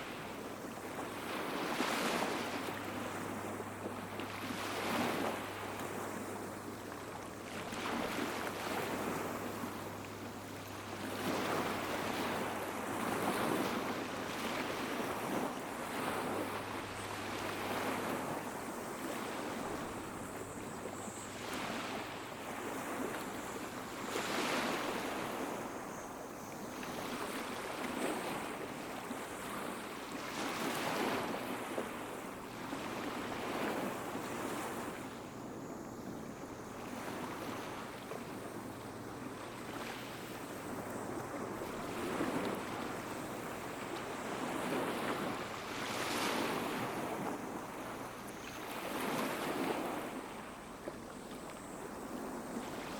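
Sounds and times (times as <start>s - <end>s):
cicadas singing faintly: 0.0s - 52.9s
small waves breaking: 0.0s - 52.9s.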